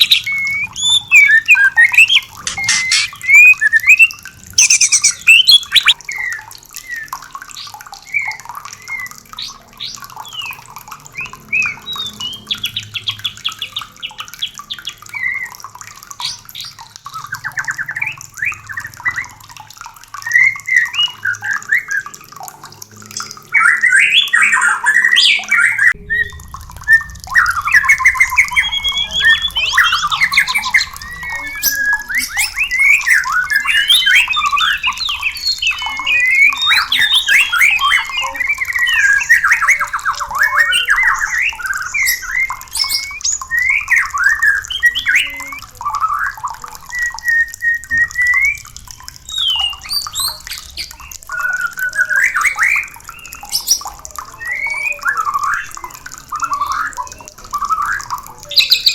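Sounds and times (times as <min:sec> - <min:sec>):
birds singing whistles and trills: 0:00.0 - 0:22.2, 0:23.1 - 0:58.9.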